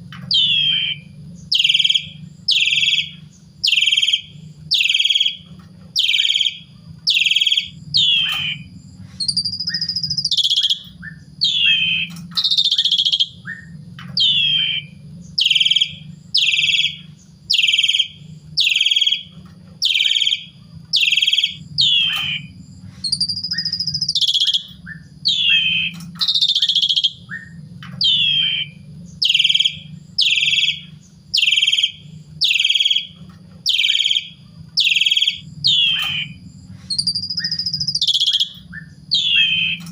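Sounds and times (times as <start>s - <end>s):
starling calling: 0.0s - 39.9s
steady low hum: 0.0s - 39.9s
drawn-out bird whistle: 0.2s - 39.9s.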